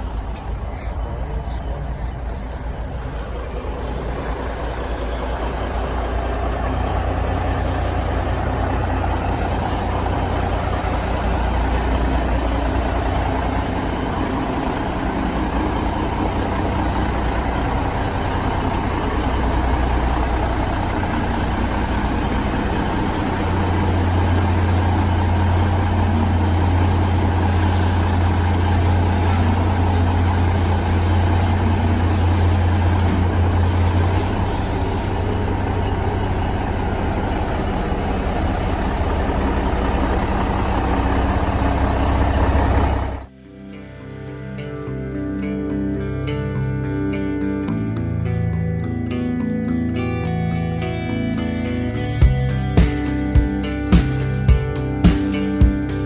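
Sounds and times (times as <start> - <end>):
truck diesel engine running: 0.0 - 43.3, 52.2 - 56.0.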